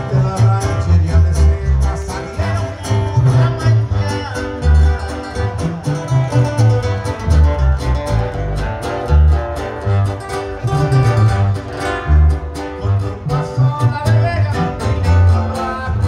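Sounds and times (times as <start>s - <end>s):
acoustic guitar strumming: 0.0s - 16.0s
deep pulsing sousaphone bass: 0.0s - 16.0s.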